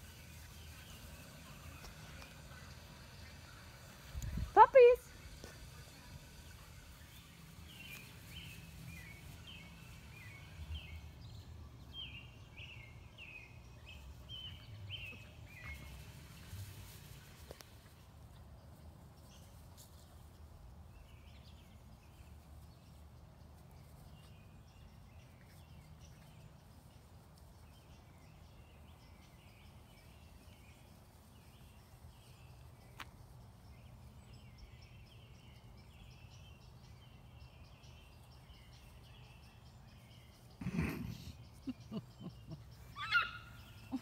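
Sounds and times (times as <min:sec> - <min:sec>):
distant birds chirping: 0:00.0 - 0:44.0.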